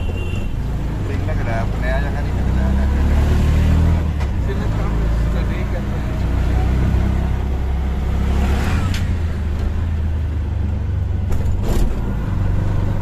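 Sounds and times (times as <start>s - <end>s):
auto-rickshaw engine running: 0.0s - 13.0s
road noise: 0.0s - 13.0s.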